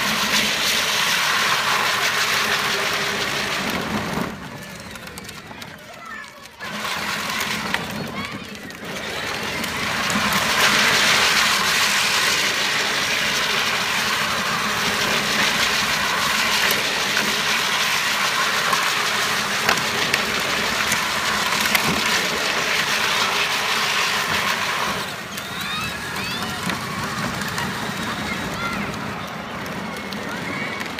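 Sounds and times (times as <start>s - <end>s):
plastic wheels rumbling on asphalt: 0.0s - 30.9s.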